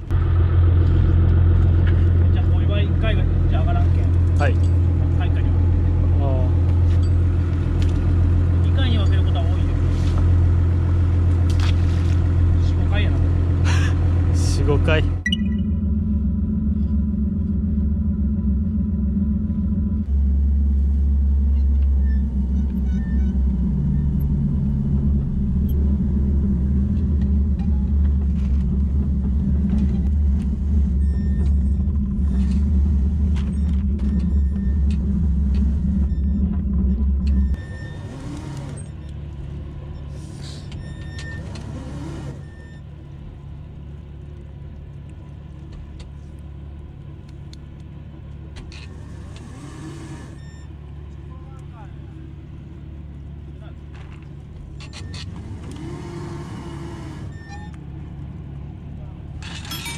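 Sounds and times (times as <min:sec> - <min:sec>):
boat engine rumbling: 0:00.0 - 0:59.9.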